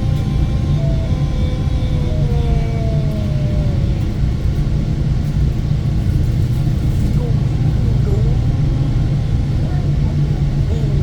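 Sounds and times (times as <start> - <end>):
low rumble of trains: 0.0 - 11.0.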